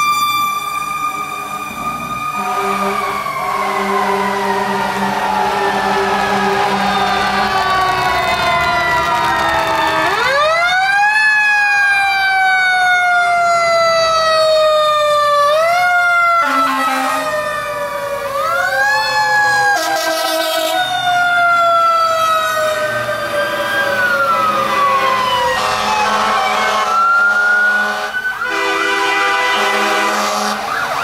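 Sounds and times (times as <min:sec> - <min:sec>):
fire truck siren: 0:00.0 - 0:31.0.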